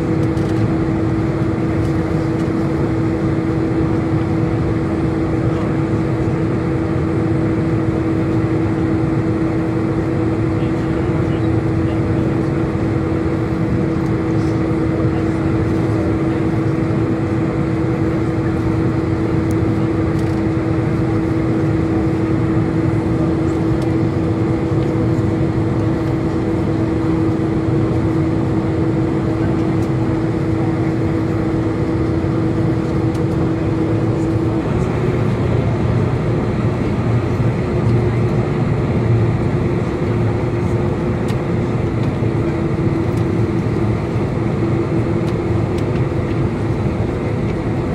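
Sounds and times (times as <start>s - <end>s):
jet engines humming: 0.0s - 47.9s.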